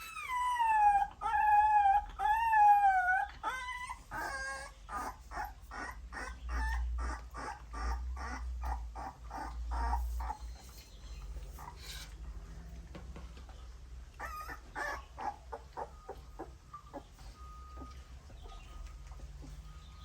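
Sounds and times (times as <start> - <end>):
puppies whining: 0.0 - 12.2, 13.5 - 20.0.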